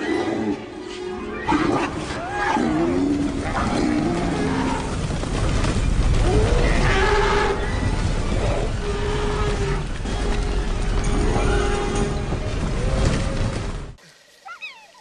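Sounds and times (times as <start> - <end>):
dinosaurs lowing and honking: 0.0 - 13.9
low rumble of stampede: 0.5 - 14.0.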